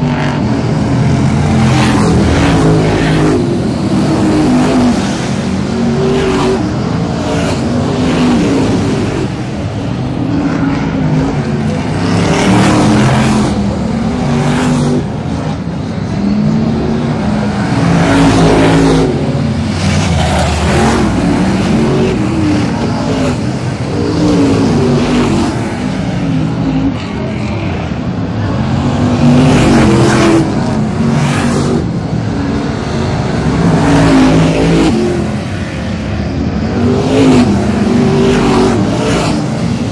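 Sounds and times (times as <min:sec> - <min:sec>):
stock car engines racing: 0:00.0 - 0:39.9.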